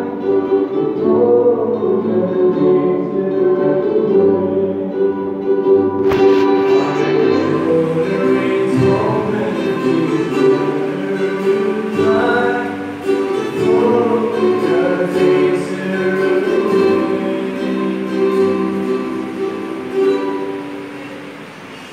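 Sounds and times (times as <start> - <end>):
man singing into a microphone: 0.0 - 5.3, 6.6 - 19.2
ukulele strumming: 0.0 - 21.9.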